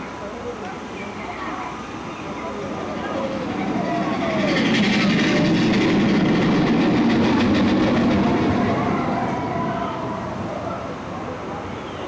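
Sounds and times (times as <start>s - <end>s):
train rumbling past: 0.0s - 11.7s.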